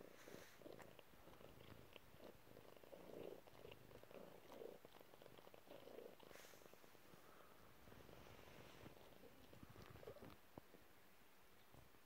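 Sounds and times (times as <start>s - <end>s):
cat purring: 0.0s - 10.9s.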